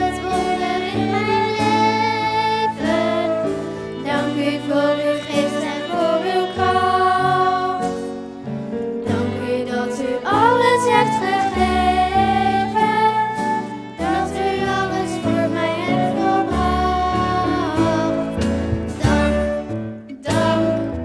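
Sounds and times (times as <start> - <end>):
children singing: 0.0 - 8.1, 9.1 - 21.0
flute: 0.0 - 8.1, 9.0 - 21.0
acoustic guitar: 0.0 - 21.0
violin: 0.0 - 21.0.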